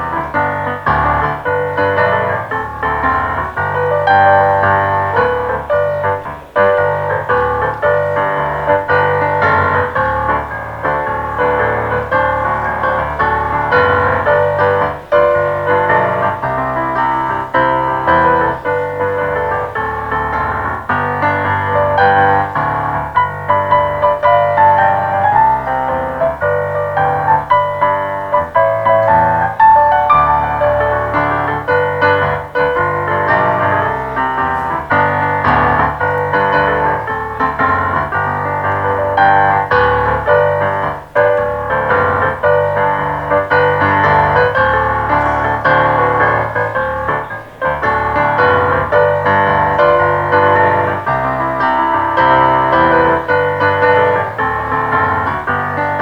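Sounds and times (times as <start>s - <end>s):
piano piece: 0.0s - 56.0s.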